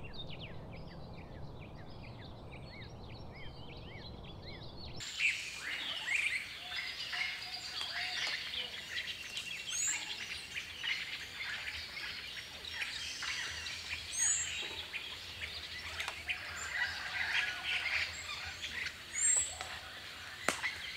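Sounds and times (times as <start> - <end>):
high whistled bird calls: 0.0 - 20.9
songbirds chirping and singing: 0.0 - 20.9.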